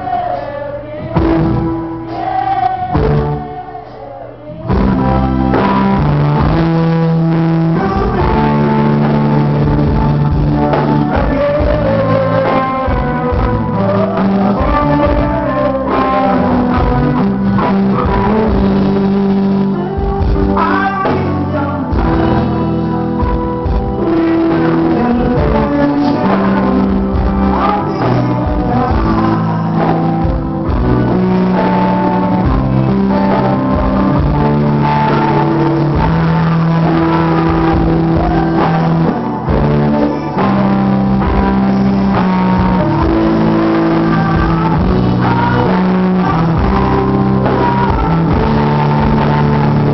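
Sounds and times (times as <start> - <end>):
live band playing: 0.0 - 49.9
person singing: 0.0 - 49.9.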